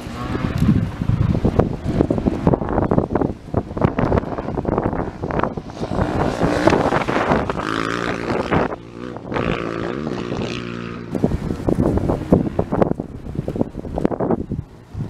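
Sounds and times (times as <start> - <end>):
motorcycle engine revving: 0.0 - 15.0
wind buffeting microphone: 0.0 - 15.0.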